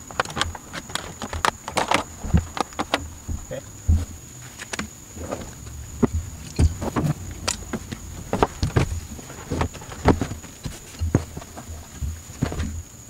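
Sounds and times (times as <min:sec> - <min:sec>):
parts and tools knocking: 0:00.0 - 0:12.9.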